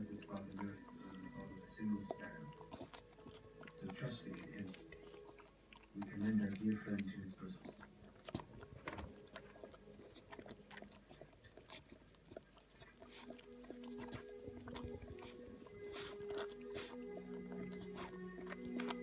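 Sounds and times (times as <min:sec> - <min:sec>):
dog licking wet clicks: 0:00.0 - 0:19.0
soft music with held notes: 0:00.0 - 0:19.0.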